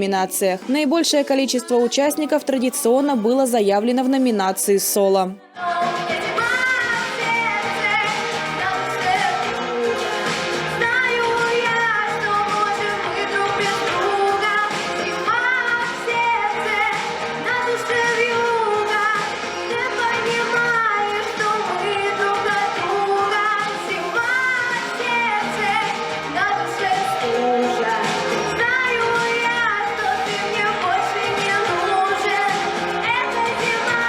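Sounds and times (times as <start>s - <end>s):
person singing pop song: 0.0s - 34.0s.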